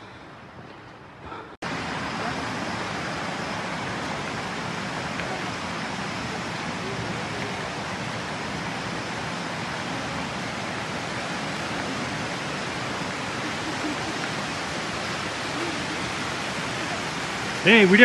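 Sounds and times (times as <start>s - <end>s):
rushing water: 1.6s - 18.0s.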